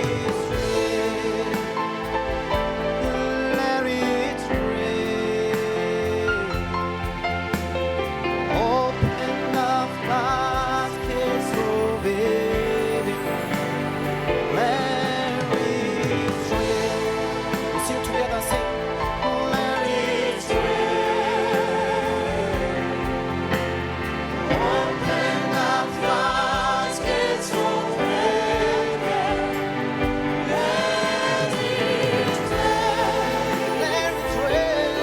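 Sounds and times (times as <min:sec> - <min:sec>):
choir singing gospel song: 0:00.0 - 0:35.0
instrumental backing: 0:00.0 - 0:35.0.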